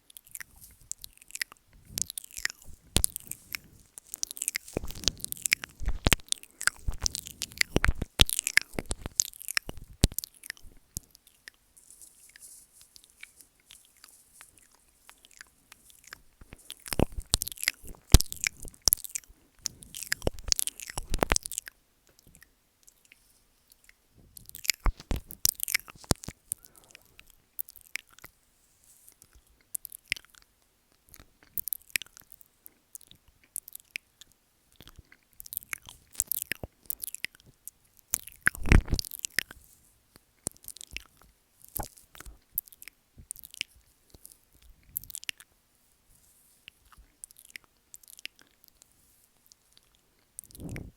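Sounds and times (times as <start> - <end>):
licking and nibbling microphone: 0.0 - 28.4, 29.0 - 50.9
wet mouth clicks and smacks: 0.1 - 11.6, 14.0 - 23.2, 23.8 - 28.3, 29.3 - 39.6, 40.4 - 45.5, 46.7 - 48.8, 49.5 - 50.9.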